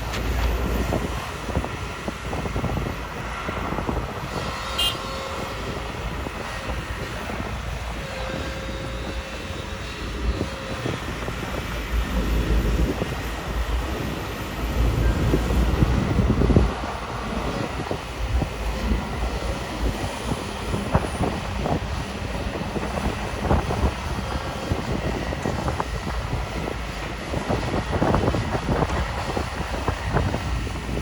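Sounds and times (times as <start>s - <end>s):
diesel engine rumble: 0.0s - 31.0s
hydraulic whine: 0.0s - 31.0s.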